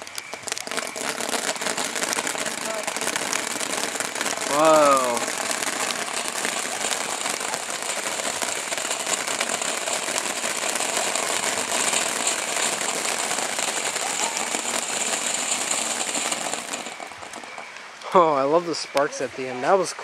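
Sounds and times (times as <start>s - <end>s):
firework sparks hissing and crackling: 0.0s - 20.0s.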